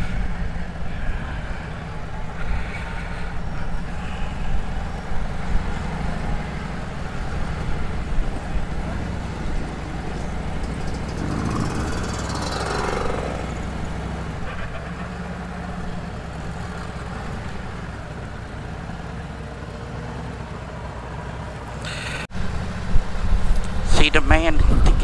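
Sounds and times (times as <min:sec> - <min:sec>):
motorcycle engine running: 0:00.0 - 0:23.8.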